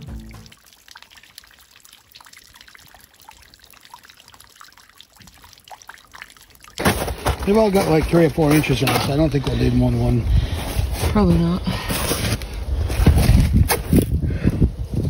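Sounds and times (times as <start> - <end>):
water trickling over leaves and ice: 0.0 - 14.1.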